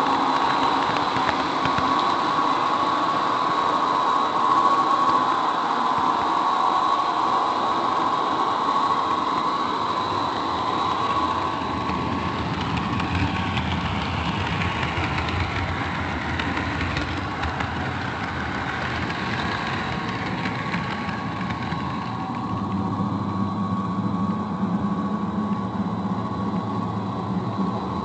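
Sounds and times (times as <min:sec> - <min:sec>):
model train wheels rolling on rails: 0:00.0 - 0:28.0.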